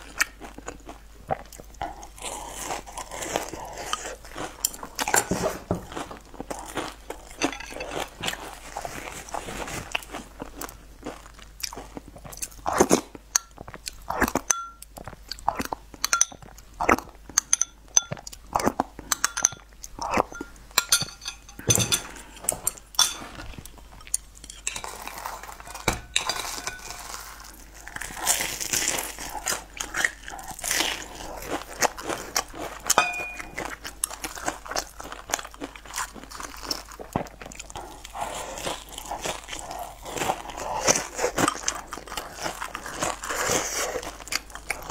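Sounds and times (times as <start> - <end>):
crunching and chewing fried food: 0.0 - 44.9.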